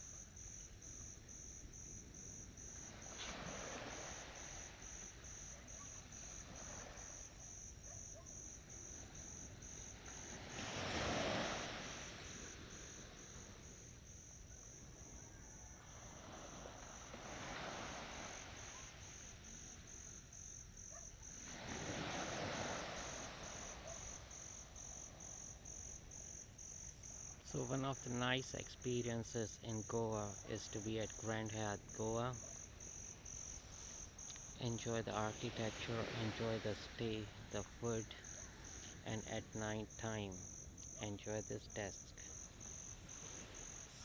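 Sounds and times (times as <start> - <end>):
crickets chirping: 0.0 - 44.0
ocean waves breaking on shore: 0.0 - 44.0.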